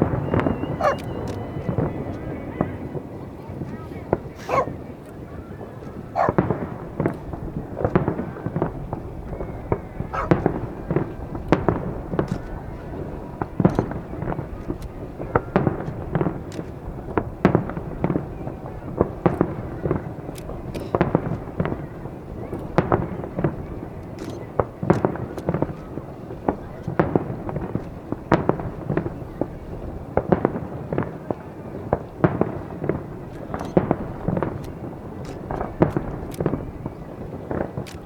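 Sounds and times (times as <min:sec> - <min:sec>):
fireworks bursting: 0:00.0 - 0:38.0
rumble of echoing reports: 0:00.0 - 0:38.0.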